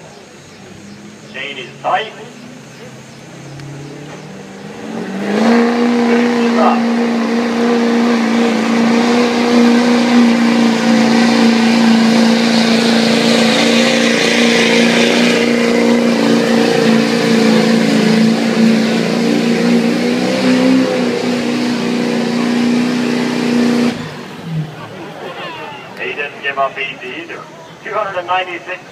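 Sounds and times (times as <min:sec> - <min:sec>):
diesel truck engine at high revs: 0:00.0 - 0:28.9.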